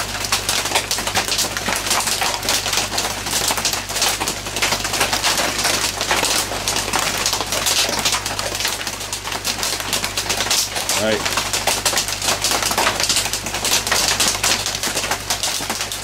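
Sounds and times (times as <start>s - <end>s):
heavy rain on a tin roof: 0.0s - 16.0s
low electrical hum: 0.0s - 16.0s.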